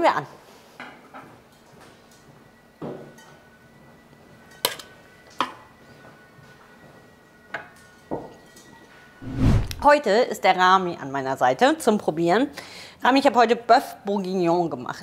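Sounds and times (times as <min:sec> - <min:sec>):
faint background music: 0:01.4 - 0:15.0.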